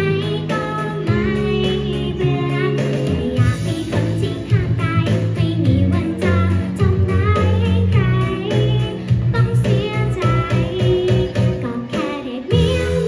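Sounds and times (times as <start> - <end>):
amplified backing music: 0.0 - 13.0
girl singing into a microphone: 0.0 - 13.0.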